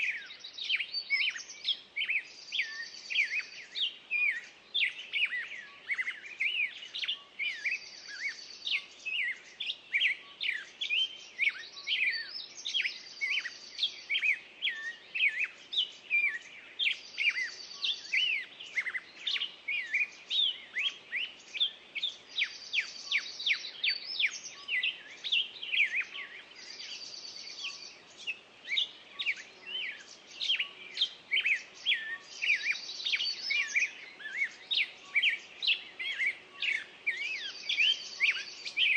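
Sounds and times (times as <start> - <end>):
songbirds chirping and whistling: 0.0 - 38.9.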